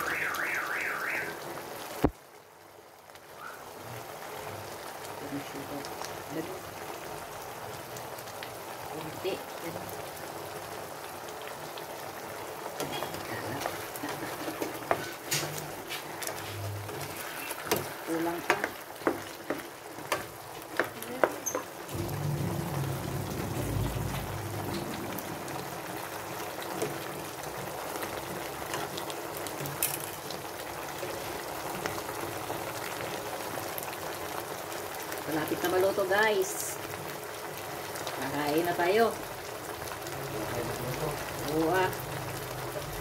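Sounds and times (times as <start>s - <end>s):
food simmering and sizzling: 0.0s - 43.0s.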